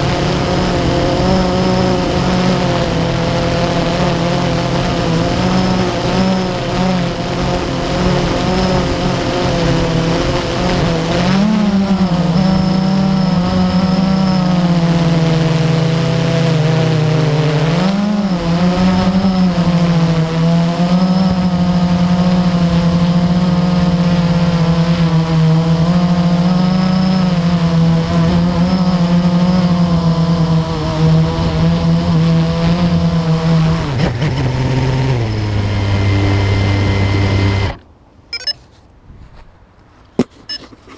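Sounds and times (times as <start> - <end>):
drone motors whining: 0.0 - 38.6.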